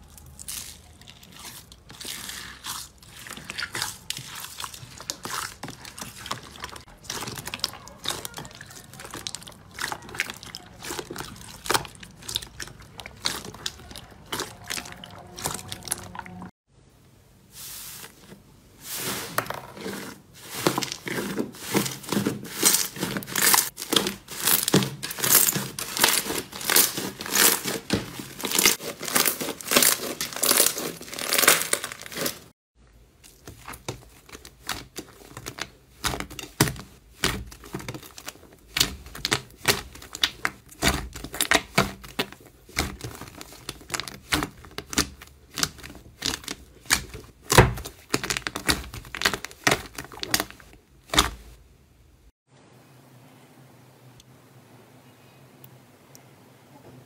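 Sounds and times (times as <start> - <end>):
slime crackling and popping: 0.0 - 16.4, 20.5 - 32.5, 33.2 - 51.6.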